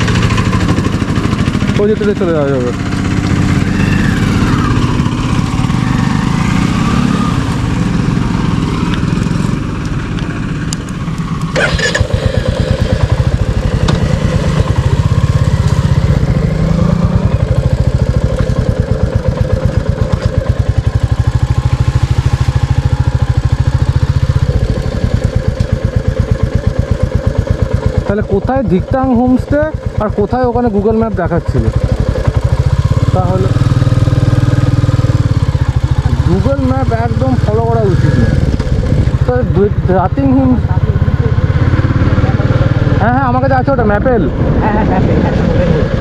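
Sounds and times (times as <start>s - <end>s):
motorcycle engine thumping: 0.0s - 46.0s.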